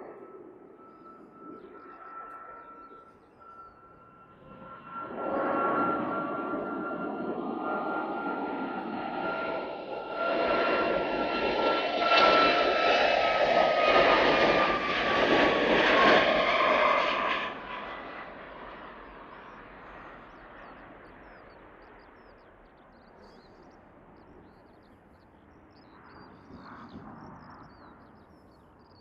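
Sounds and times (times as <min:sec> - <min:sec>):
airliner engines whining: 0:00.0 - 0:29.0.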